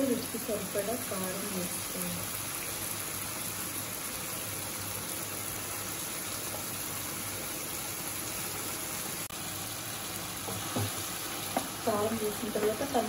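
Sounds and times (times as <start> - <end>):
chicken sizzling in a wok: 0.0 - 13.0.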